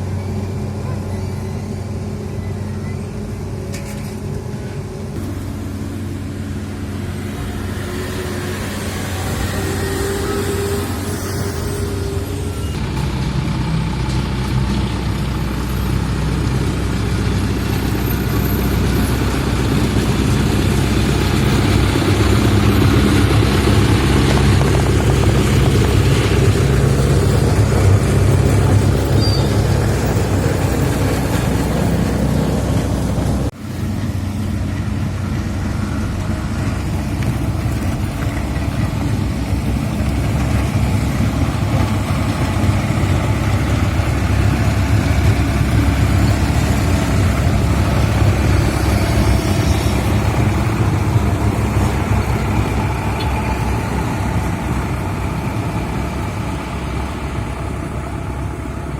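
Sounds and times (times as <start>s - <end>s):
heavy diesel machinery engines running: 0.0s - 58.9s.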